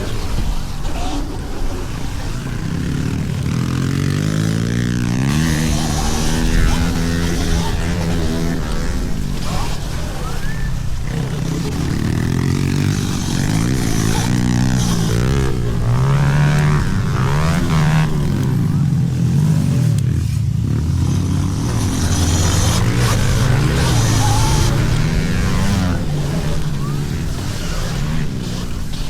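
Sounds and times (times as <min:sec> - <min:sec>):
small motorcycle engines revving: 0:00.0 - 0:29.0.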